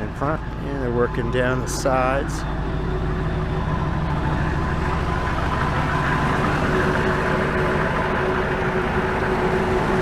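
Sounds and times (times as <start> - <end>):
diesel engine idling: 0.0 - 10.0
faint steady whine: 0.0 - 10.0.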